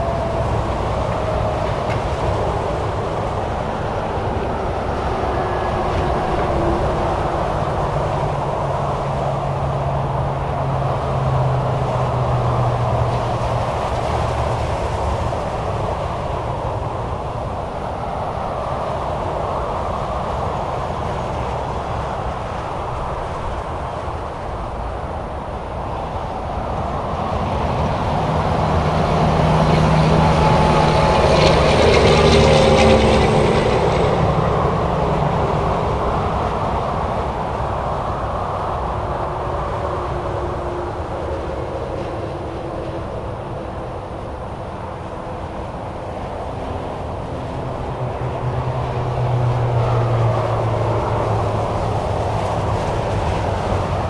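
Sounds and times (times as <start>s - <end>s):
heavy vehicle passing: 0.0s - 54.0s
highway traffic: 0.0s - 54.0s.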